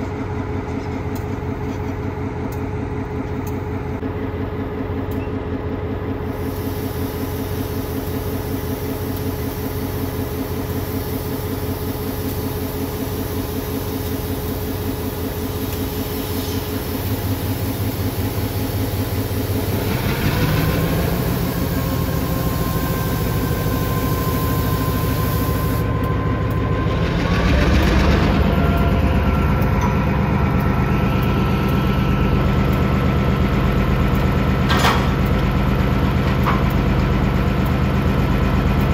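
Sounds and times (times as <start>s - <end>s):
locomotive engine idling: 0.0s - 38.9s.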